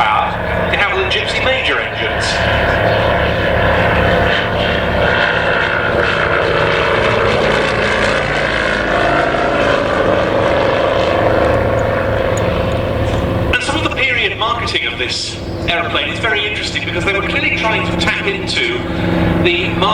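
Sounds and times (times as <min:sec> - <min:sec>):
radial aircraft engine and propeller: 0:00.0 - 0:19.9.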